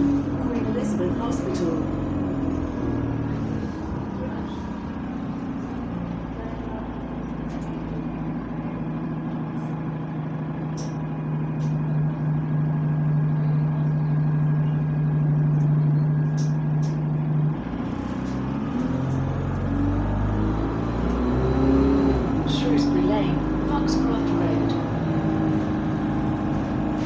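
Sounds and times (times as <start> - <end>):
bus engine drone: 0.0 - 27.0.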